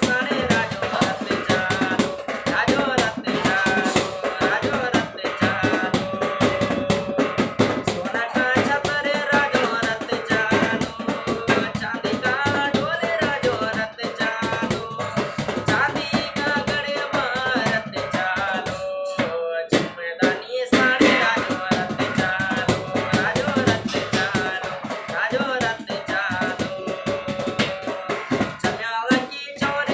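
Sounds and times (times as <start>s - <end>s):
backing track with fast drumbeat: 0.0s - 29.9s
man singing: 0.0s - 29.9s.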